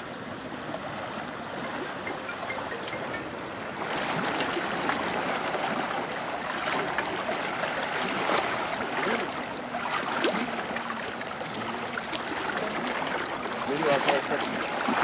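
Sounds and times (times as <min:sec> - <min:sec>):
waves lapping on boulders: 0:00.0 - 0:15.0.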